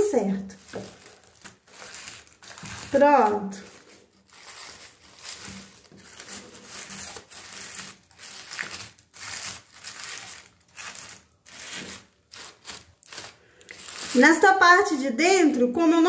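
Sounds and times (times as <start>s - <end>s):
tissue paper rustling: 0.0s - 14.6s.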